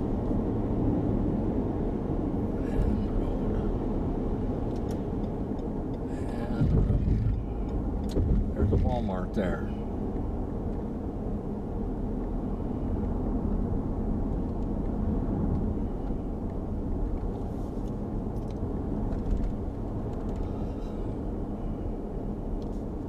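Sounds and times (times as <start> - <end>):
car cabin road rumble: 0.0 - 23.0.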